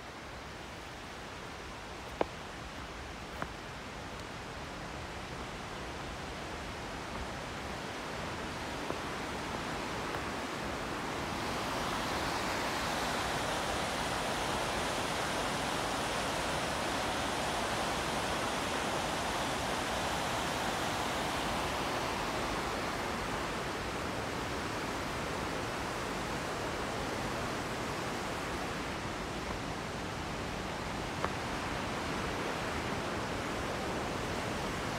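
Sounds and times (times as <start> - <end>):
whitewater rushing over rocks: 0.0 - 34.9.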